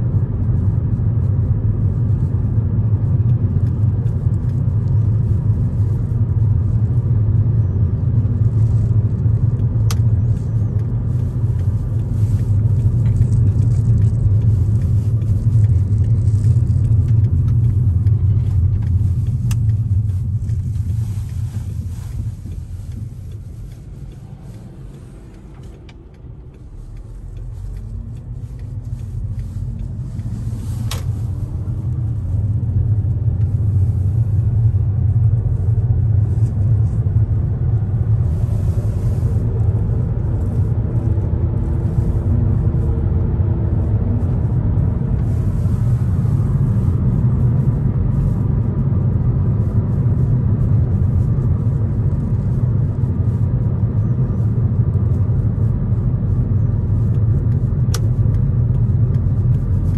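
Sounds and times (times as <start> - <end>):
car engine rumbling: 0.0 - 59.9.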